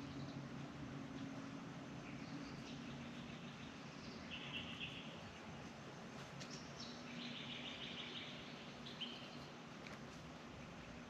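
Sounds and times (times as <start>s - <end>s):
steady outdoor hum: 0.0s - 11.0s.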